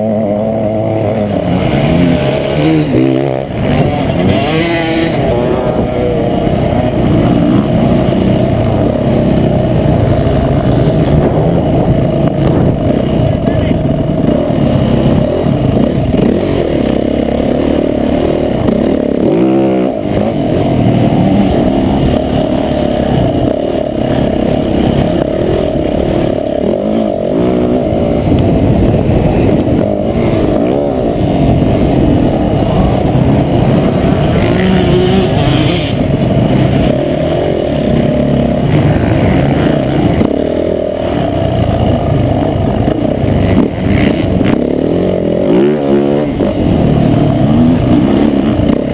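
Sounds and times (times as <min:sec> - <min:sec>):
muffled motocross engine revving: 0:00.0 - 0:48.9.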